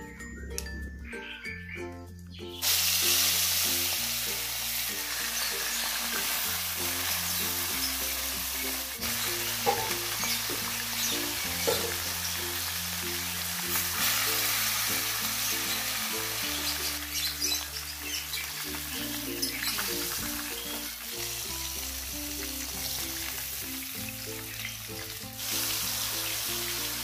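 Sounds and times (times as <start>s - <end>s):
fish sizzling in hot oil: 2.6s - 27.0s.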